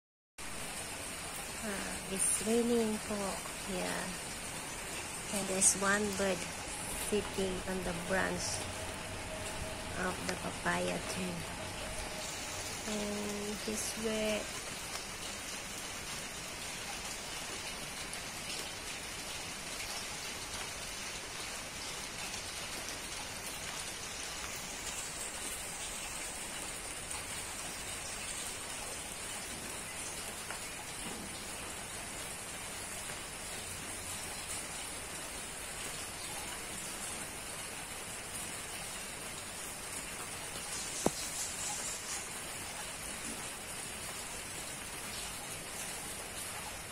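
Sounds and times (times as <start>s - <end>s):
rain falling on leaves: 0.4s - 46.9s.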